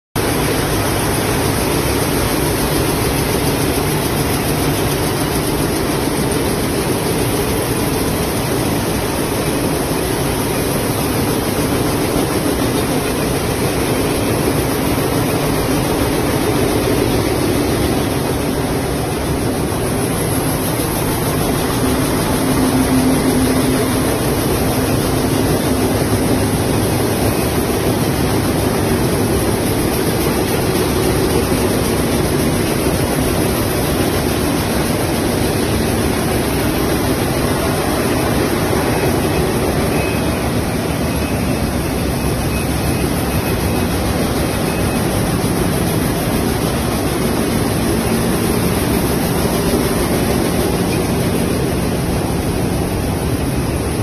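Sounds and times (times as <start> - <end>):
production machines running: 0.2 - 54.0.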